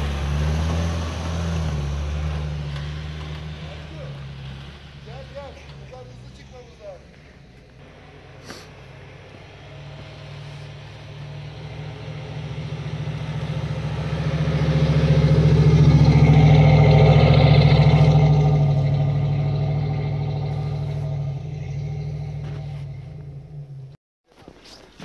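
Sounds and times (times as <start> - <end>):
off-road vehicle engine approaching: 0.0 - 24.0.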